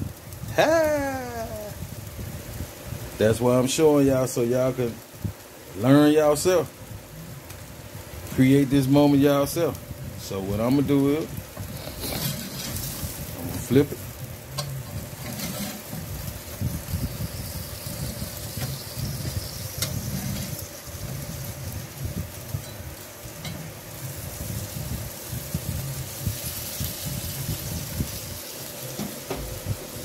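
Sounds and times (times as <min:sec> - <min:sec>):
fish sizzling on a grill: 0:00.0 - 0:30.0.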